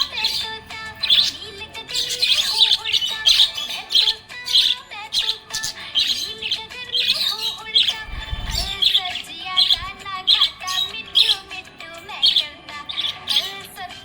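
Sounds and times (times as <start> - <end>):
budgerigar chirping and warbling: 0.0 - 14.0.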